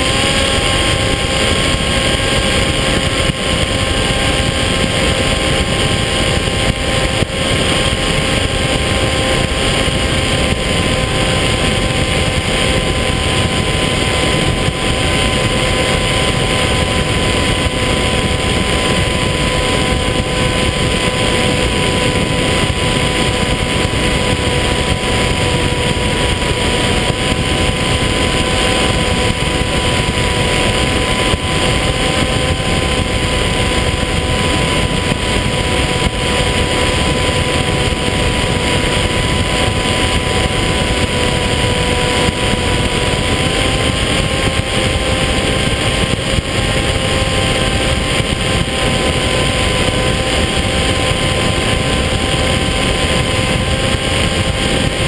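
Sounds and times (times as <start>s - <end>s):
electric motor and propeller whine: 0.0s - 55.0s
wind rush on microphone: 0.0s - 55.0s.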